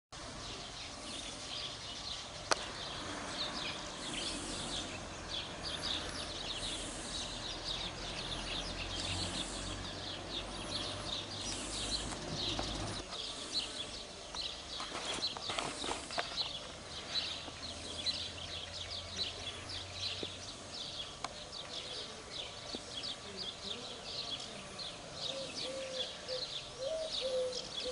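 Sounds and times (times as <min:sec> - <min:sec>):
small birds chirping: 0:00.2 - 0:27.9.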